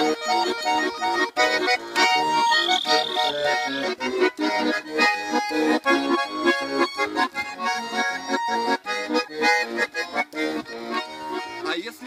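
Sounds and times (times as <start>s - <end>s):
button accordion playing: 0.0s - 12.0s.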